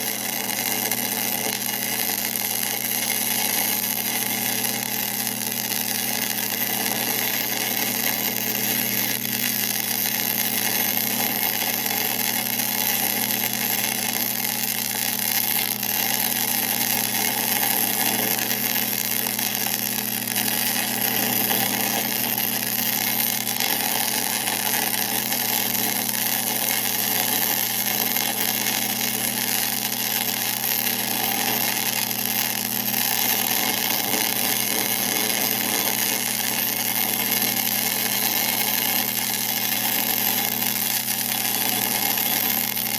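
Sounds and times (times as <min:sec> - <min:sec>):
lathe humming and whirring: 0:00.0 - 0:42.9.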